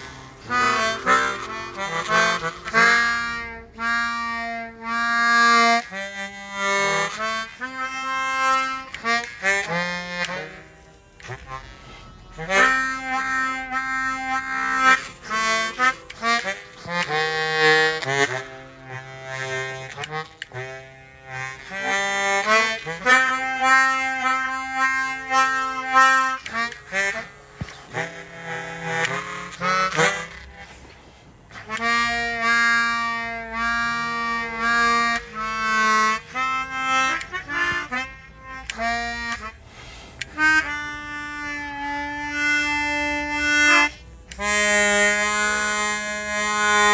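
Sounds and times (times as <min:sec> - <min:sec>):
bass harmonica with reverb: 0:00.0 - 0:46.9.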